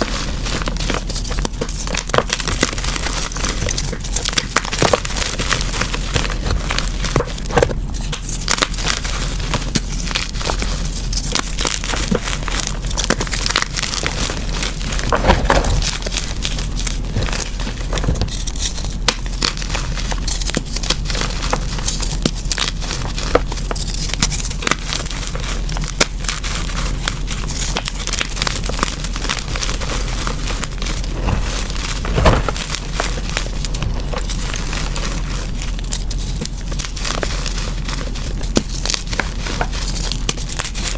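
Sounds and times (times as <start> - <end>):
chalk being crushed: 0.0 - 40.9.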